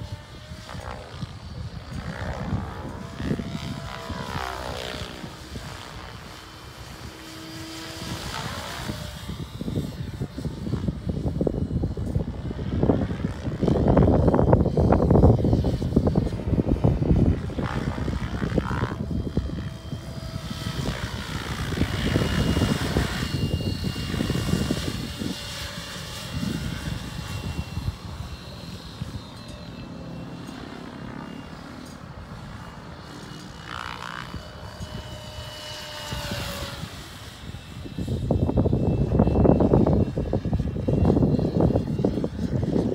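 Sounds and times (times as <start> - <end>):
model helicopter motor whine: 0.0 - 42.9
wind buffeting microphone: 0.0 - 42.9.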